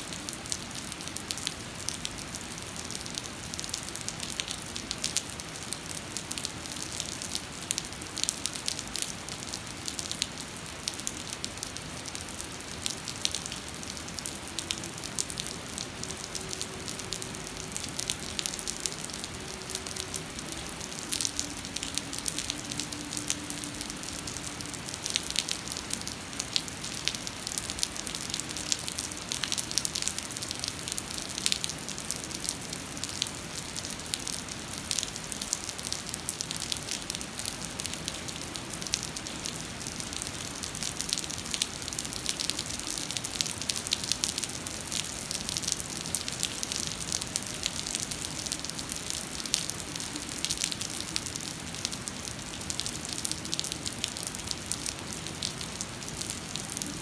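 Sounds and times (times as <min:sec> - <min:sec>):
heavy rain on flooded pavement: 0:00.0 - 0:57.0.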